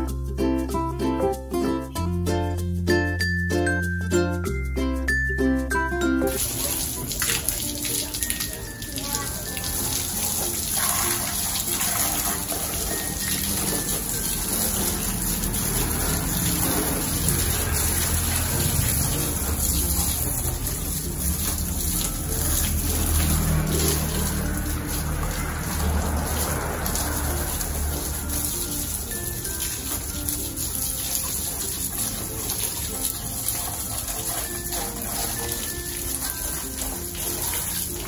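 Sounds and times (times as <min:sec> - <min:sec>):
garden hose spraying water: 0:06.2 - 0:38.0.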